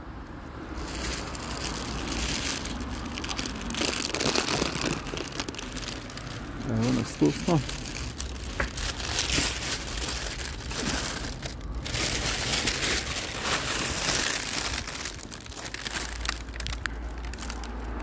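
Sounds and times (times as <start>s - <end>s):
rustling on phone microphone: 0.7s - 18.0s.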